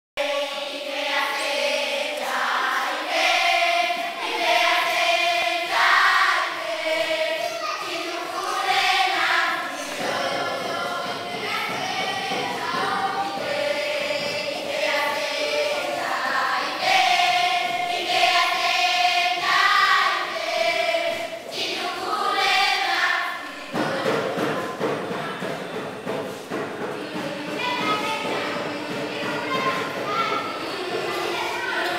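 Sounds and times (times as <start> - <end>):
children's choir singing: 0.2 - 31.9.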